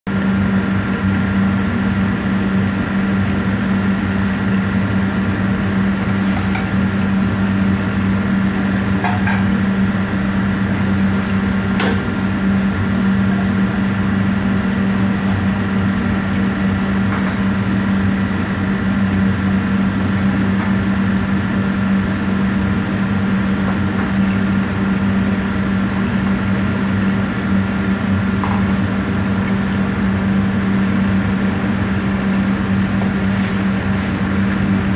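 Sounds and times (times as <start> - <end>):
kitchen machinery humming: 0.1 - 34.9.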